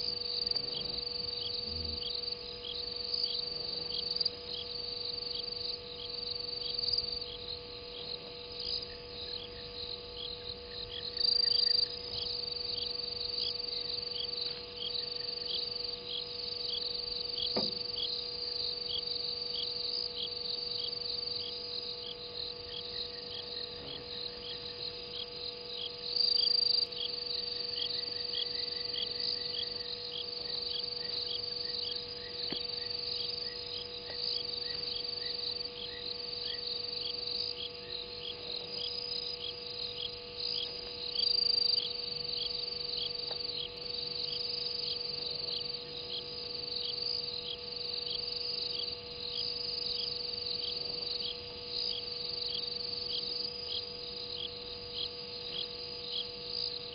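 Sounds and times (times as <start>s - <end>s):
crickets and insects trilling: 0.0s - 56.9s
insect chirping pulse: 0.0s - 56.9s
low steady hum: 0.0s - 56.9s.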